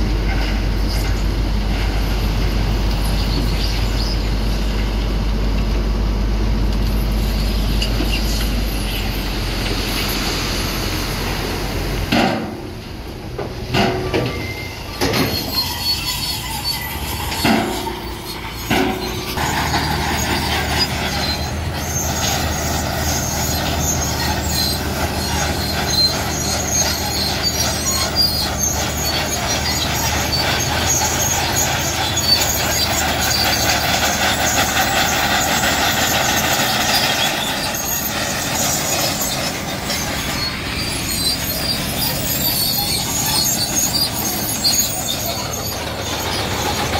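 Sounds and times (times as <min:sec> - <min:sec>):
diesel engine drone: 0:00.0 - 0:46.9
rough continuous grinding: 0:00.0 - 0:46.9.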